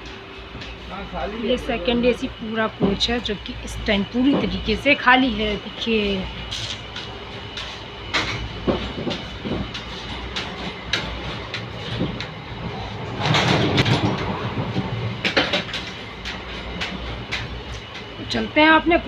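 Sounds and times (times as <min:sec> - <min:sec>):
train coach rumble: 0:00.0 - 0:19.0.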